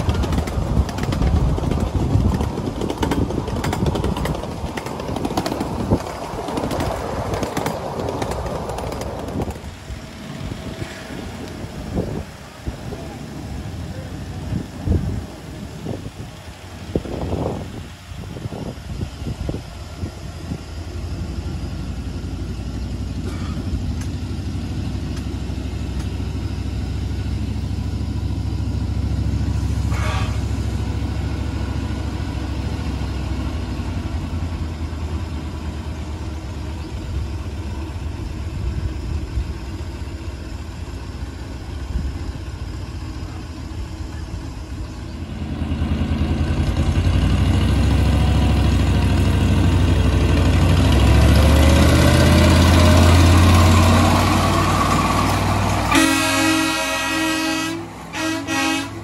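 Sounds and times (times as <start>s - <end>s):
miniature train engine droning: 0.0s - 59.0s.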